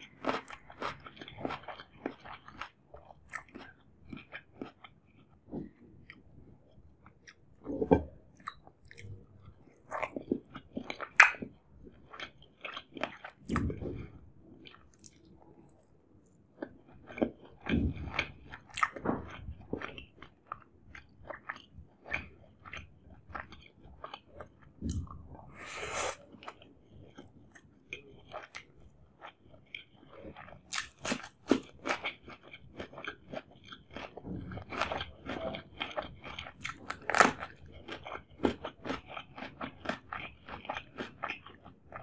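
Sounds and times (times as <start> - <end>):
wet chewing clicks and crunches: 0.0 - 25.6, 26.3 - 42.0.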